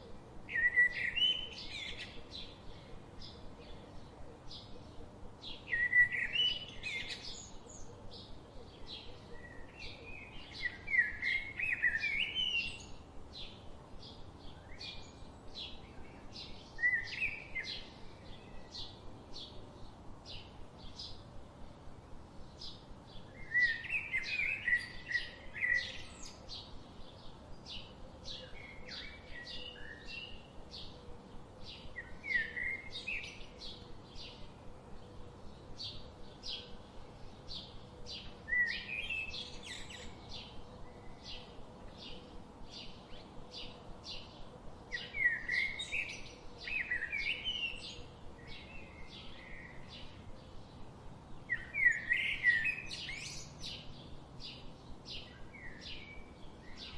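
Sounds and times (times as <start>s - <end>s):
bird warbling song: 0.0s - 19.6s, 22.5s - 56.9s.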